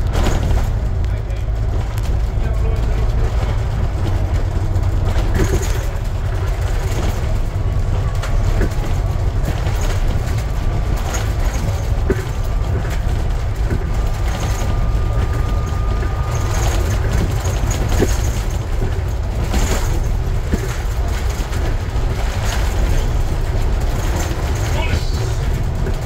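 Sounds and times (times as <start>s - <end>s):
bus engine and road rumble: 0.0s - 26.0s
short knocks and rattles: 0.0s - 26.0s
faint whine: 0.5s - 26.0s.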